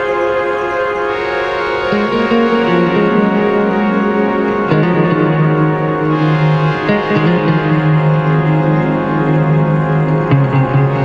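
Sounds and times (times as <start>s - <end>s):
slow sustained chords: 0.0s - 11.0s.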